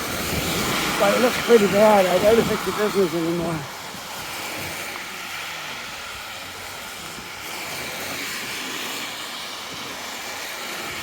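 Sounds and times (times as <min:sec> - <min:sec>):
passing traffic hiss: 0:00.0 - 0:11.0.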